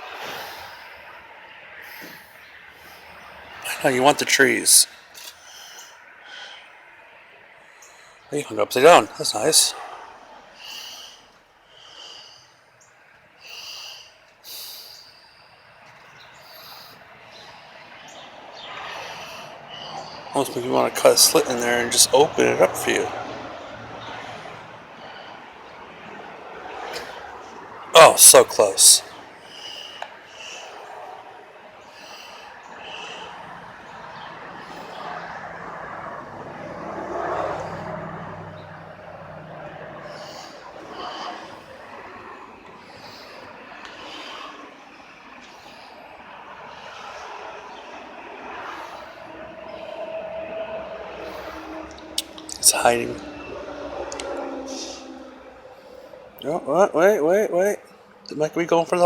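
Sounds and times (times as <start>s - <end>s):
vehicle driving past: 0.0s - 12.3s, 15.7s - 59.0s.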